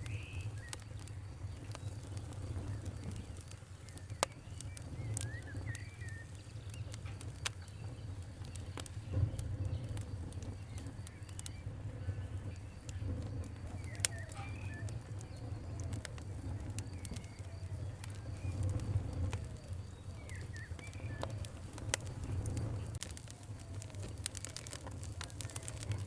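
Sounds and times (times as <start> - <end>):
birds chirping: 0.0 - 26.0
low steady rumble: 0.0 - 26.0
wood fire crackling: 0.0 - 26.0.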